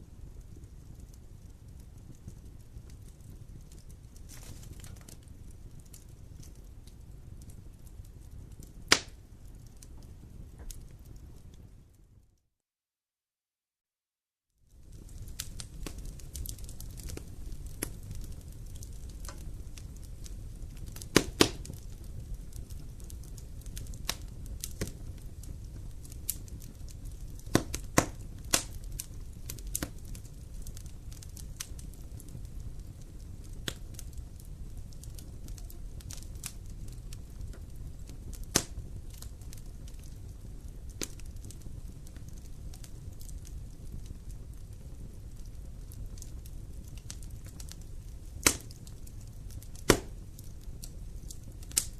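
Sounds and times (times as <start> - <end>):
wood crackling and popping: 0.0 - 12.2, 14.7 - 51.9
low rumble of flames: 0.0 - 12.4, 14.6 - 51.9.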